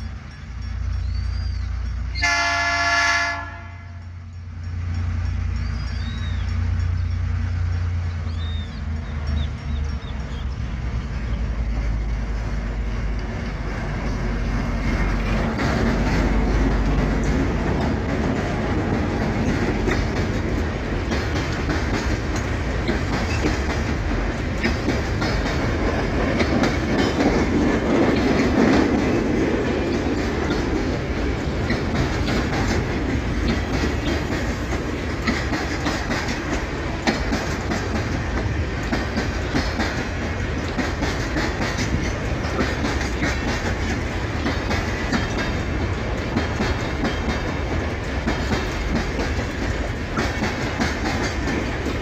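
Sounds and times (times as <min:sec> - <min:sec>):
freight train wheels clicking: 0:00.0 - 0:52.0.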